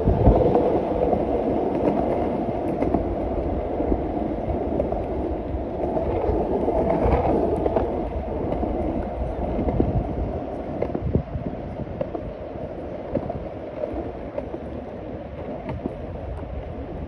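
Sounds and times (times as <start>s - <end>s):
wheel and wind rumble: 0.0s - 17.0s.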